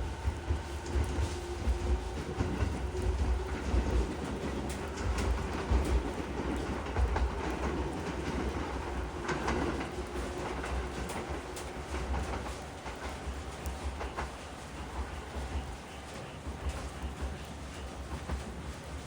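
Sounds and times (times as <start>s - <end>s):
train rumbling: 0.0s - 19.0s
wheels clacking over rail joints: 0.0s - 19.0s.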